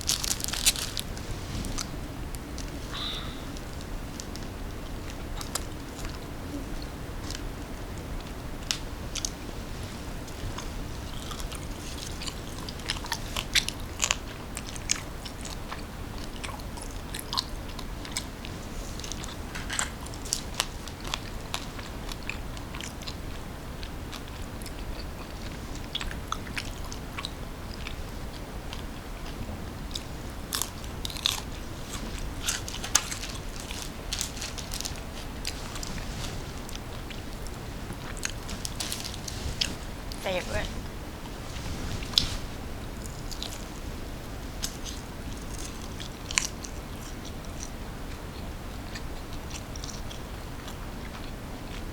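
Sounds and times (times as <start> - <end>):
chewing crunchy food: 0.0 - 51.9.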